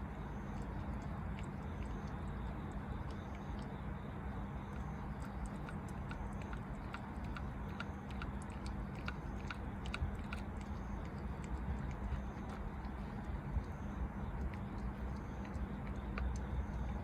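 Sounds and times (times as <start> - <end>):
cat chewing wet clicks: 0.0 - 17.0
steady low hum: 0.0 - 17.0.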